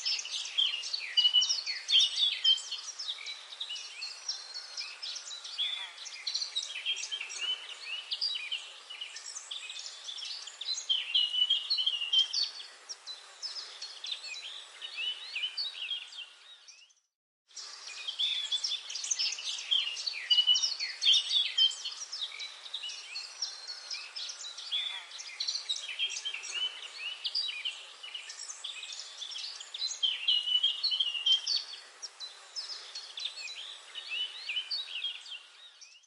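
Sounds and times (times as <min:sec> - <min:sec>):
songbirds chirping and trilling: 0:00.0 - 0:36.0.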